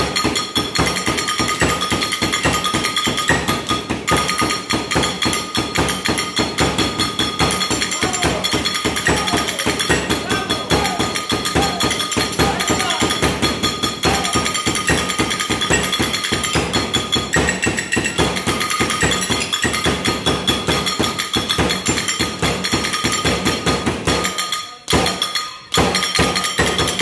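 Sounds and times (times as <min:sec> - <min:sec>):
music with fast percussive beat: 0:00.0 - 0:27.0.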